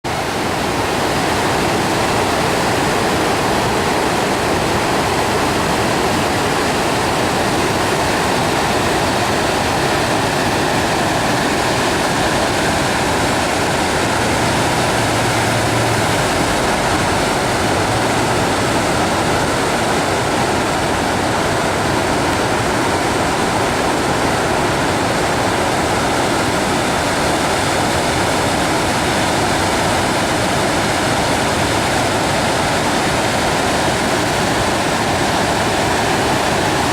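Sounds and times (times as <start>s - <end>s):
floodwater rushing over weir: 0.0s - 36.9s.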